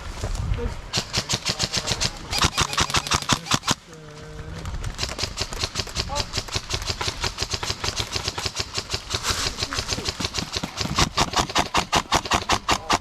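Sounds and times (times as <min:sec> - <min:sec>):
airsoft gun rapid shots: 0:00.9 - 0:03.8, 0:05.0 - 0:13.0.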